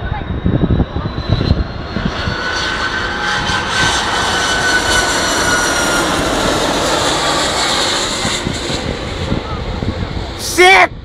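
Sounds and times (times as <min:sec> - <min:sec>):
jet engines roaring: 0:00.0 - 0:11.0
steady high whine: 0:00.0 - 0:11.0.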